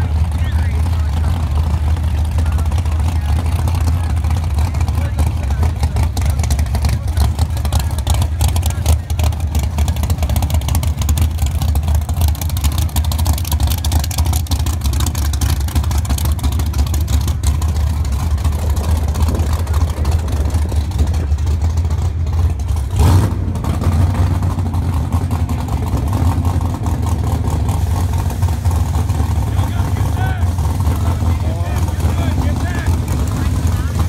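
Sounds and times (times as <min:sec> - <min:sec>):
drag racing engines idling: 0:00.0 - 0:34.0.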